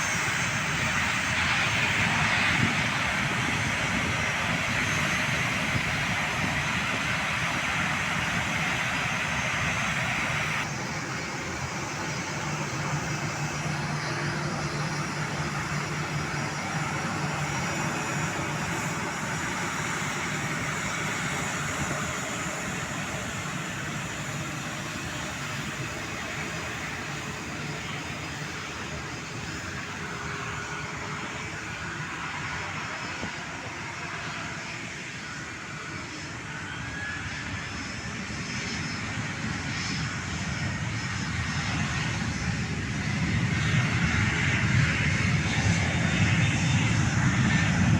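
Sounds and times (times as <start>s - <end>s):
airliner engine rushing: 0.0s - 47.9s.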